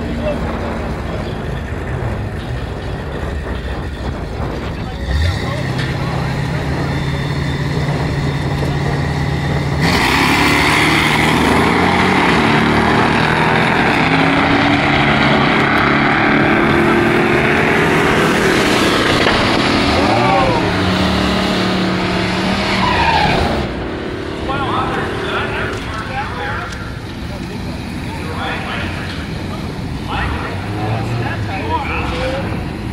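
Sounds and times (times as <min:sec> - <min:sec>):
drag racing car engine: 0:00.0 - 0:32.9.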